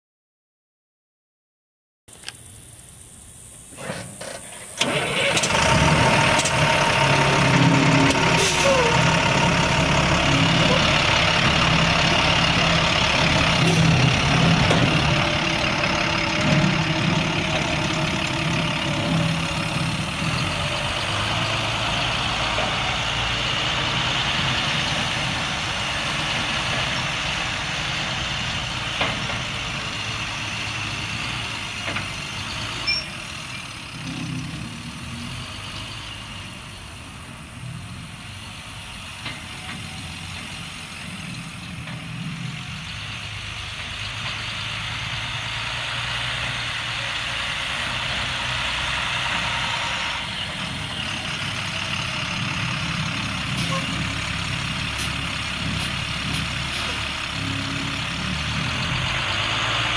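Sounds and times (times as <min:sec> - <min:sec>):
diesel engine idling: 0:02.5 - 0:59.9.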